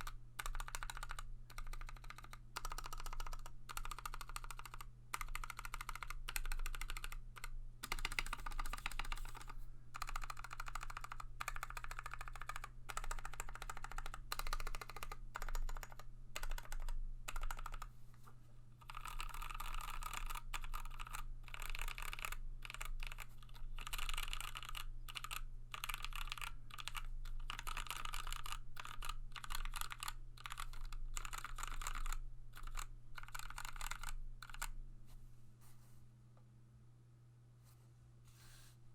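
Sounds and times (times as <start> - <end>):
mechanical keyboard typing: 0.0 - 17.9, 18.8 - 34.8.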